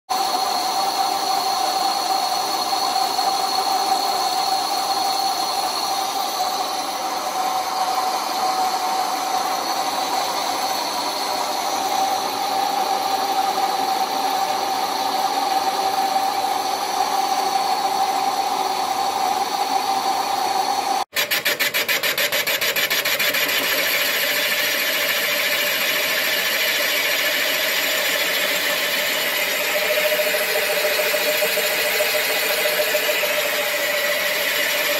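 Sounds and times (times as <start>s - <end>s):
metal lathe humming and whining: 0.1s - 21.0s, 23.4s - 34.9s
lathe boring with fast pulsing: 0.1s - 34.9s.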